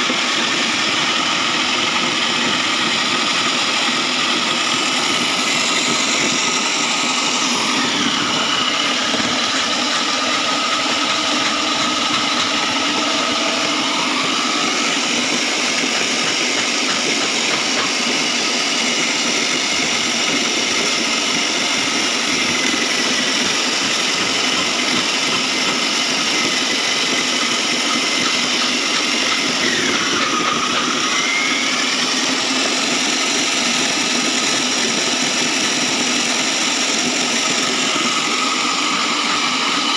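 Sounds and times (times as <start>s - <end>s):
foam shredder machine whirring: 0.0s - 39.9s.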